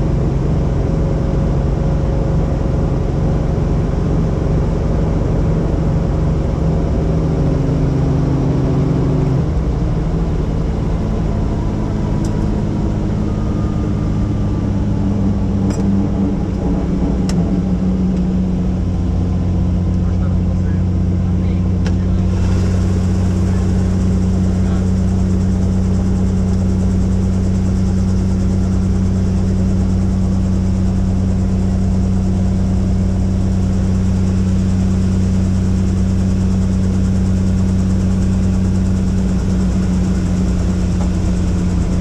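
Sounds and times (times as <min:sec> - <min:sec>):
helicopter rotor drone: 0:00.0 - 0:42.0.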